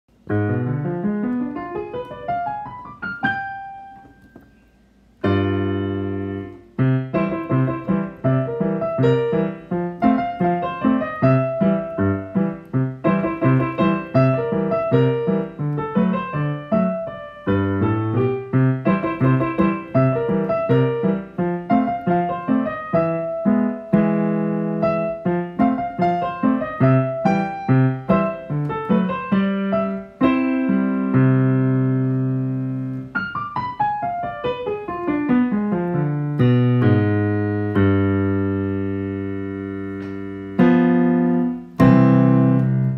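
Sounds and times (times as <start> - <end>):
digital piano playing ragtime: 0.1 - 42.9.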